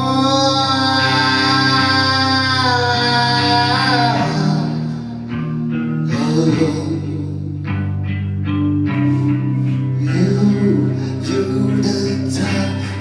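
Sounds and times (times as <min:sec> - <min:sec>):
electric guitar chords: 0:00.0 - 0:13.0.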